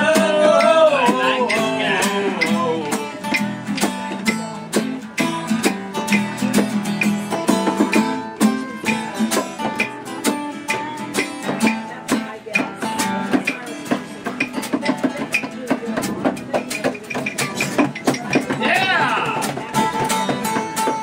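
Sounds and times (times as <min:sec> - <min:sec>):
acoustic guitars strummed and picked: 0:00.0 - 0:21.0.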